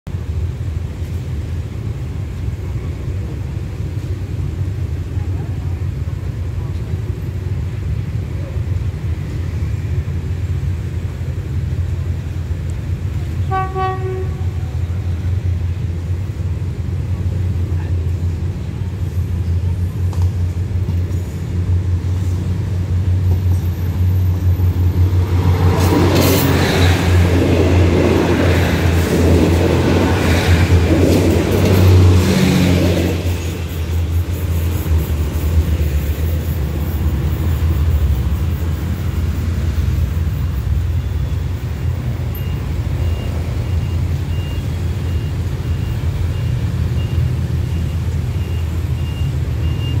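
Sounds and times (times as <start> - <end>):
locomotive diesel engine: 0.1 - 50.0
low rumble of road traffic: 0.1 - 50.0
wheels rattling on rail: 0.1 - 50.0.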